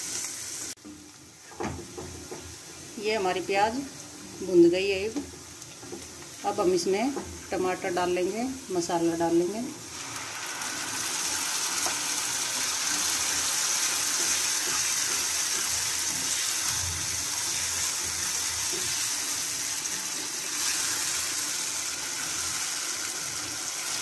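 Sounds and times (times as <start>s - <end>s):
tomato sizzling in hot oil: 0.0s - 24.0s.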